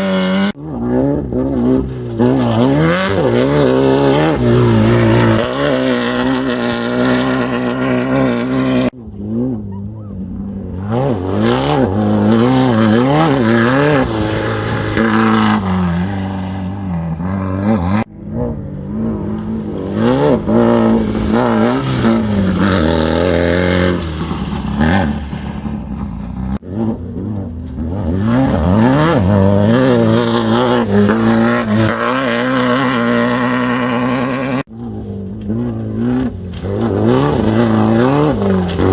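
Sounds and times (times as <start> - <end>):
race vehicle engines revving: 0.0 - 38.9.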